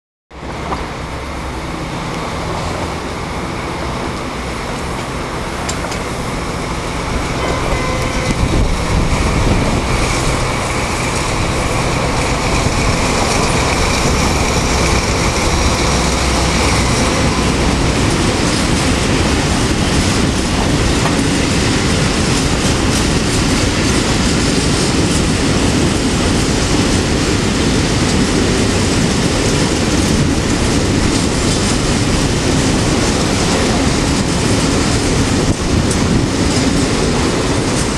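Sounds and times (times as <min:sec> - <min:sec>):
diesel locomotive engine: 0:00.3 - 0:37.9
wheels clattering over rail joints: 0:00.4 - 0:37.9.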